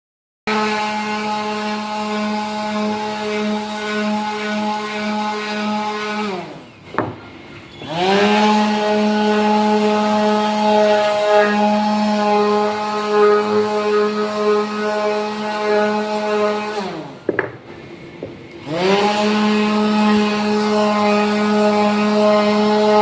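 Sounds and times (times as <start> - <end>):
woodworking machine whining: 0.5 - 23.0.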